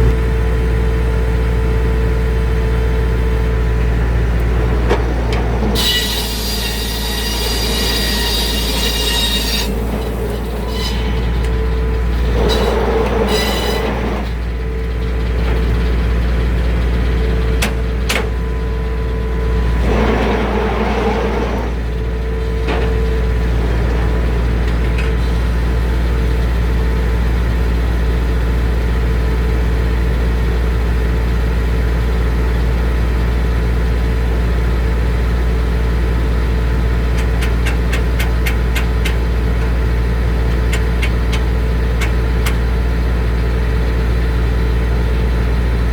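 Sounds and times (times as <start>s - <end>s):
sawmill engine humming: 0.0s - 45.9s.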